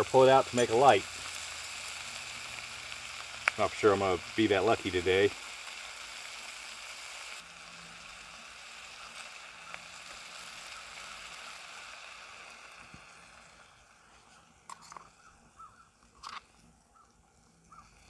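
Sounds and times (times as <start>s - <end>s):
food sizzling in a pan: 0.0s - 16.4s.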